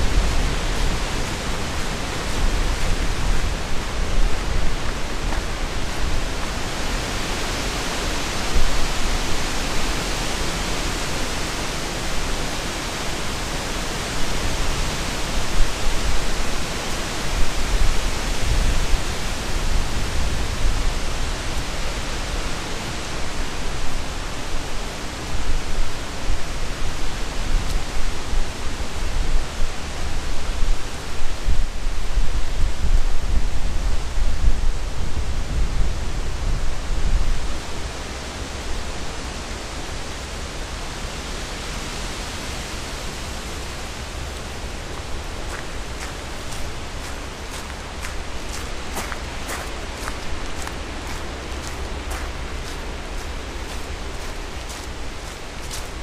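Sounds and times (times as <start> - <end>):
wind buffeting microphone: 0.0 - 11.2, 13.3 - 24.2, 25.3 - 38.9, 43.6 - 56.0
strong wind gusts: 0.0 - 56.0.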